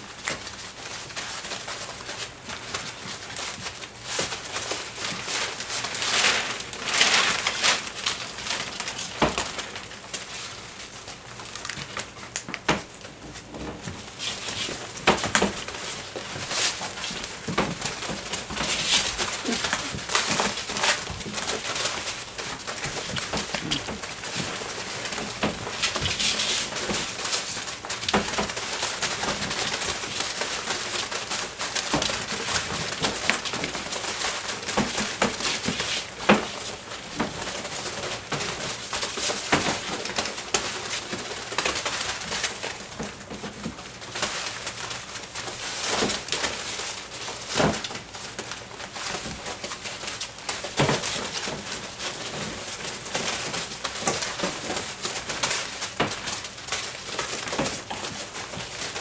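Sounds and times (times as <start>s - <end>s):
puppies rustling in wood shavings: 0.0s - 59.0s.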